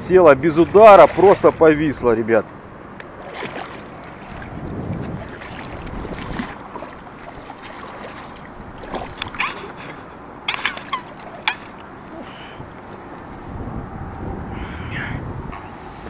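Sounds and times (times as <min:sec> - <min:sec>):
wind rumble on microphone: 0:00.0 - 0:10.5, 0:11.3 - 0:16.0
fish splashing in shallow water: 0:00.3 - 0:13.4.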